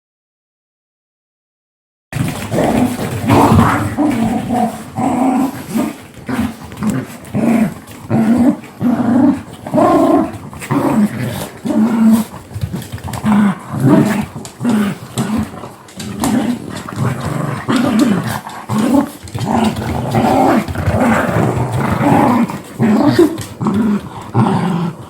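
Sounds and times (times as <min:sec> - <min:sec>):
dogs growling and snarling: 0:02.2 - 0:25.0.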